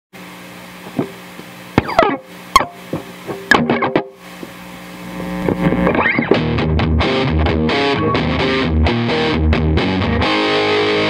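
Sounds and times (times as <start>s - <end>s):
steady held amplifier tone: 0.2s - 11.0s
electric guitar notes: 1.8s - 11.0s.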